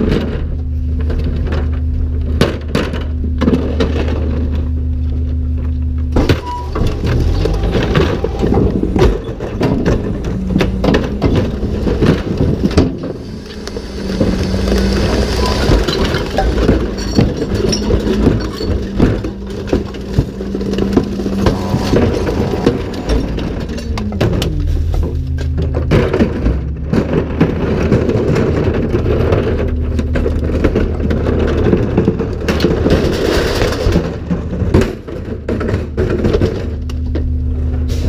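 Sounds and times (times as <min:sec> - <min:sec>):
garbage truck running: 0:00.0 - 0:38.0
hydraulic tipper humming: 0:03.0 - 0:34.4
recyclables clattering into hopper: 0:06.1 - 0:38.0
plastic carts knocking: 0:06.2 - 0:36.8.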